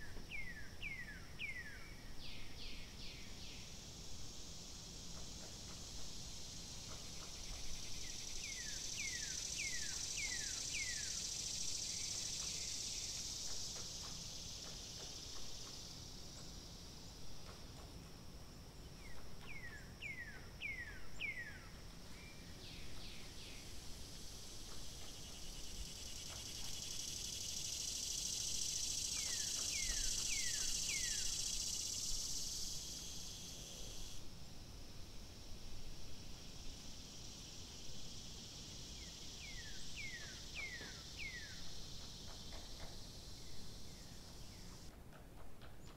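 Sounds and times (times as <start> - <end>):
insects shrilling: 3.1 - 17.2, 19.6 - 34.4, 35.2 - 44.9.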